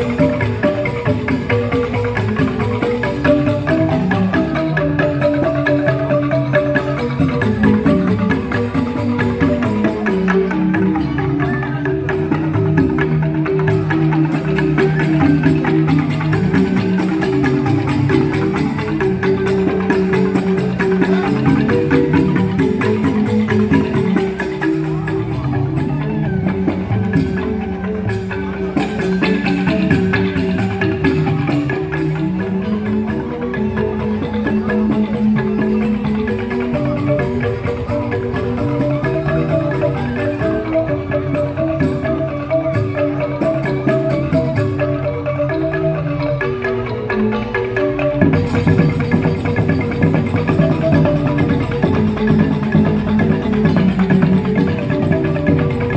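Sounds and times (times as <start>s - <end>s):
bamboo xylophone ensemble playing: 0.0s - 55.9s.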